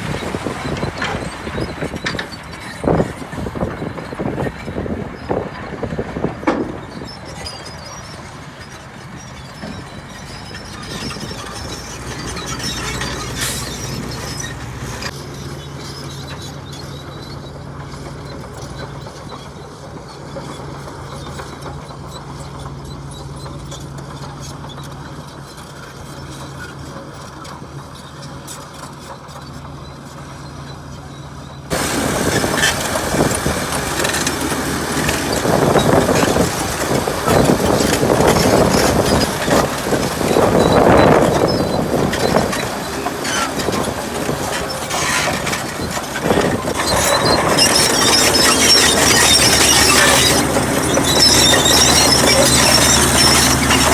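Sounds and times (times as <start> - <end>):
low diesel engine hum: 0.0 - 53.9
machinery rumbling and clattering: 0.0 - 53.9.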